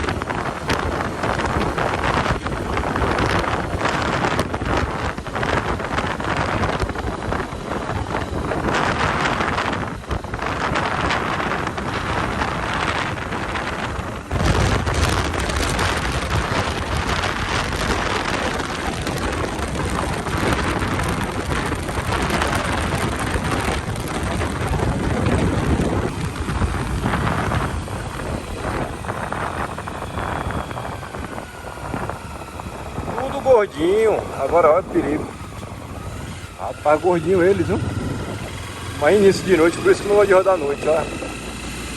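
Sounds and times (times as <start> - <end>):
motorcycle engine and tyre rumble: 0.0 - 41.9
wind on microphone: 0.0 - 41.9.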